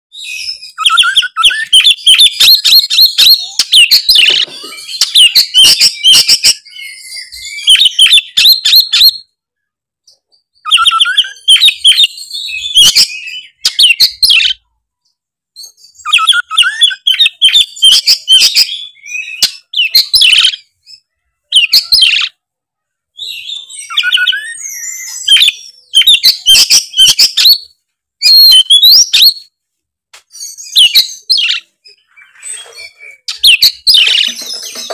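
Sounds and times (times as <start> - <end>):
songbird singing: 0.1 - 9.4, 10.1 - 22.5, 23.2 - 29.6, 30.2 - 34.9.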